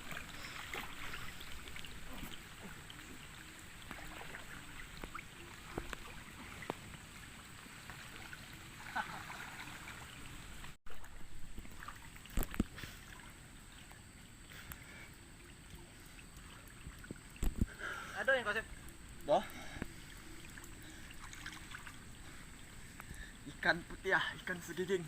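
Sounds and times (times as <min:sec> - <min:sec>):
water splashing in a stream: 0:00.0 - 0:25.0.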